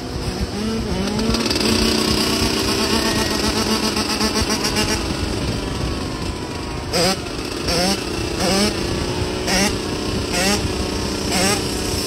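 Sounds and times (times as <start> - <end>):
dirt bike engines buzzing: 0.0 - 12.0.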